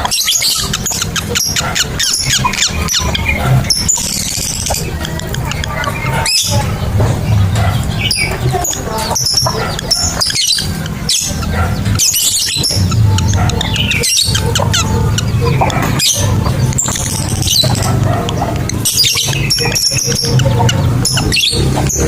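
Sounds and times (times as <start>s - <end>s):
lovebirds chattering: 0.0s - 22.0s.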